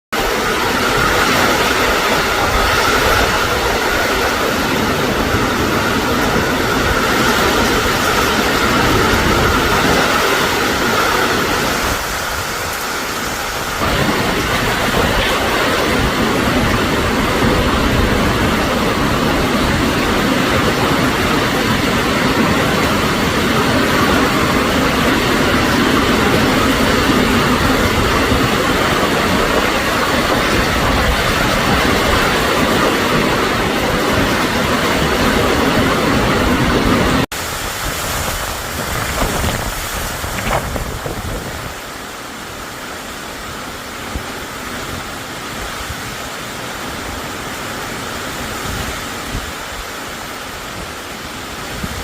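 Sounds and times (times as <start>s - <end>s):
heavy rain: 0.1s - 52.0s
strong wind gusts: 0.1s - 52.0s.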